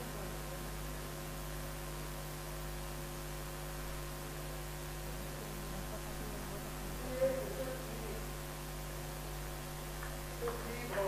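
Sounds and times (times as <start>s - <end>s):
constant hiss: 0.0s - 11.0s
electrical mains hum: 0.0s - 11.0s.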